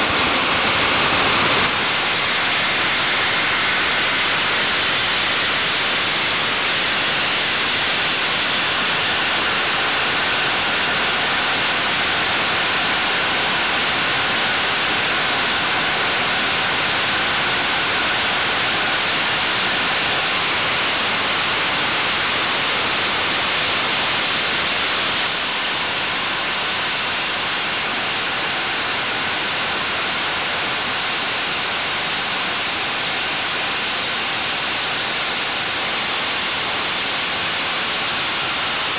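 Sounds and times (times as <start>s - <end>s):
jet engine exhaust roar: 0.0s - 38.9s.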